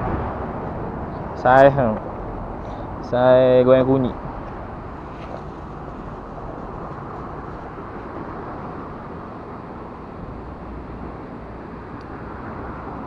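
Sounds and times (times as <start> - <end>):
steady low rumbling: 0.0 - 13.0.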